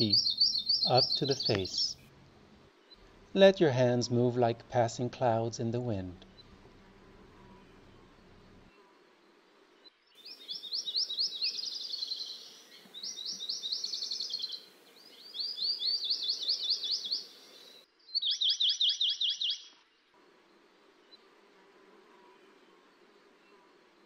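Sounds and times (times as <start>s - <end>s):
songbird chirping: 0.0s - 4.5s, 5.6s - 21.4s.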